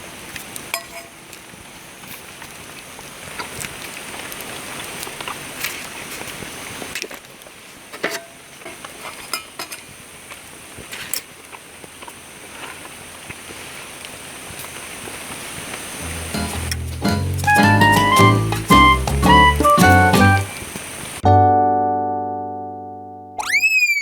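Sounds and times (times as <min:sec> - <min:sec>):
crackling hiss: 0:00.0 - 0:21.2.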